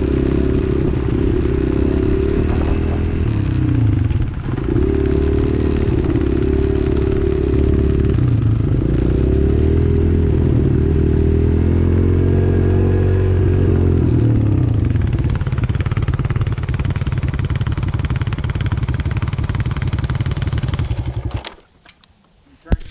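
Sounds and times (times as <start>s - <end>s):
dirt bike engine revving: 0.0s - 21.4s.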